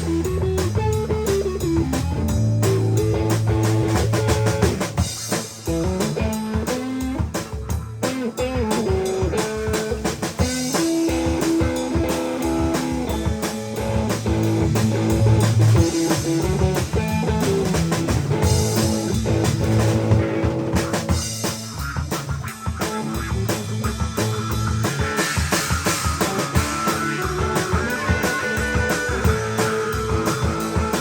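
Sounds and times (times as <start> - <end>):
bass guitar: 0.0 - 31.0
drum kit: 0.0 - 31.0
electric guitar lines: 0.0 - 31.0.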